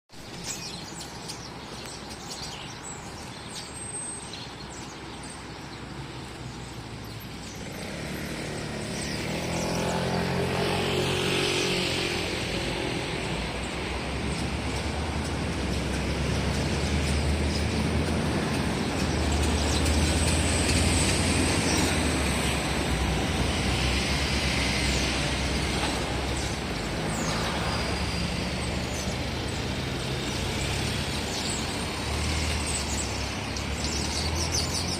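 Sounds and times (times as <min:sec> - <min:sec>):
vehicle engine rumble: 0:00.2 - 0:34.9.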